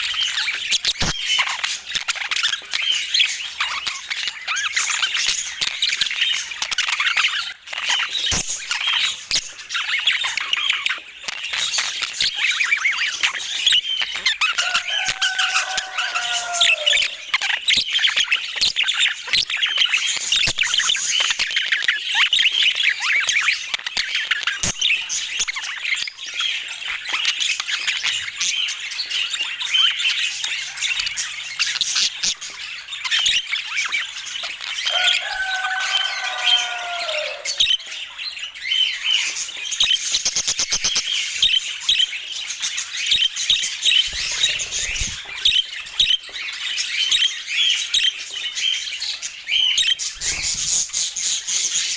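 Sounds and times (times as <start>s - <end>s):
budgerigars chattering and squawking: 0.0s - 51.9s.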